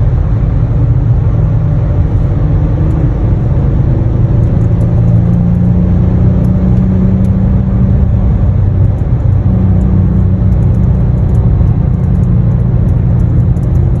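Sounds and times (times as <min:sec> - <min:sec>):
car engine droning in tunnel: 0:00.0 - 0:14.0.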